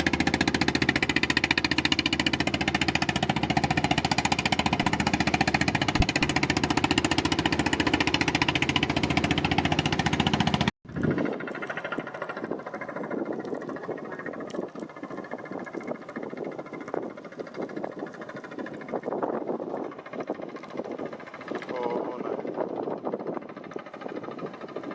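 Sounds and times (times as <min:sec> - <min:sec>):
boat engine chugging: 0:00.0 - 0:24.9.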